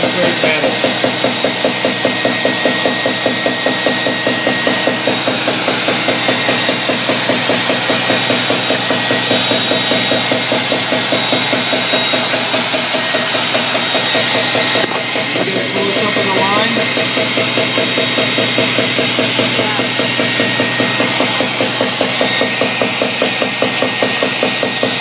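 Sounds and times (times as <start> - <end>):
rhythmic mechanical knocking: 0.0 - 25.0
thin steady whine: 0.0 - 25.0.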